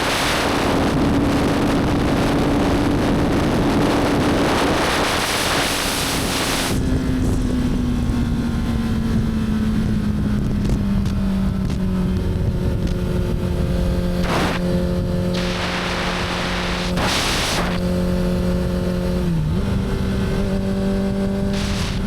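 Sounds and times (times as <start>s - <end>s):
motorcycle engine cruising: 0.0s - 22.0s
wind noise on microphone: 0.0s - 22.0s.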